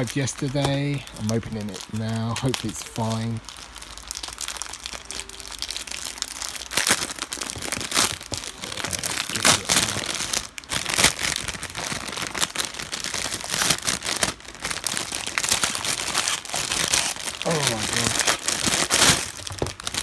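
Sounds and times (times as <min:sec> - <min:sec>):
packaging being torn and crinkled: 0:00.0 - 0:20.0.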